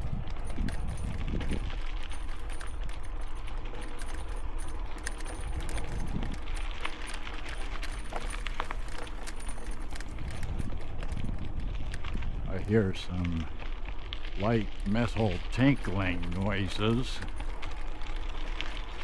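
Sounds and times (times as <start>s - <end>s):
bike parts rattling: 0.0s - 12.9s, 13.5s - 19.0s
tyres crunching on trail: 0.0s - 19.0s
wind rumble on microphone: 0.0s - 19.0s.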